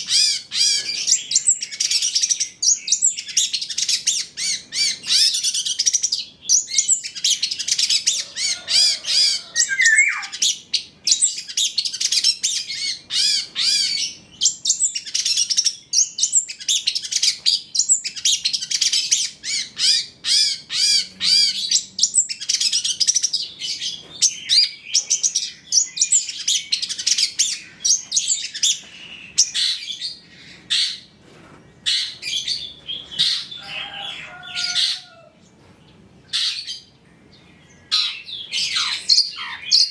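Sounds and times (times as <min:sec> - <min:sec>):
bird singing chattering song: 0:00.0 - 0:31.2, 0:35.8 - 0:39.9.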